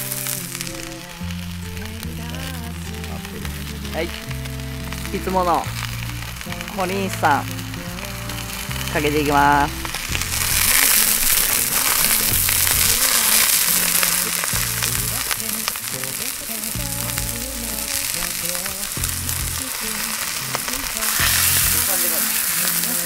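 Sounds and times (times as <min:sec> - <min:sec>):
steak sizzling in a frying pan: 0:00.0 - 0:23.0.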